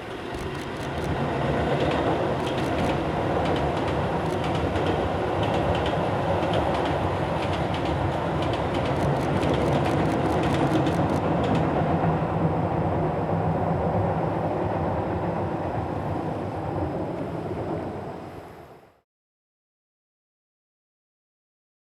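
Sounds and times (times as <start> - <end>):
electric train running past: 0.0 - 19.0.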